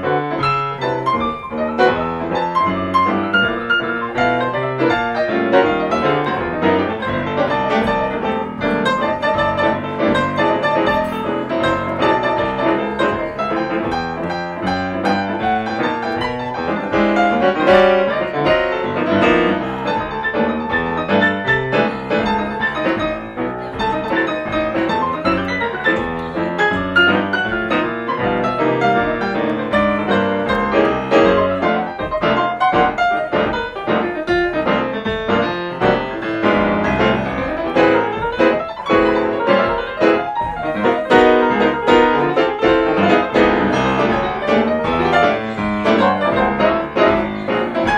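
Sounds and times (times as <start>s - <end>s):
jazz piano duo: 0.0s - 47.9s.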